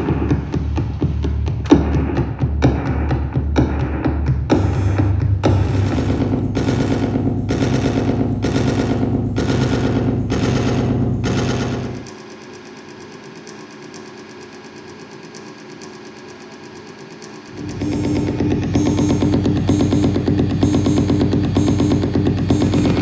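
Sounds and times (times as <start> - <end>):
loud electronic music with heavy bass: 0.0 - 12.1, 16.1 - 23.0.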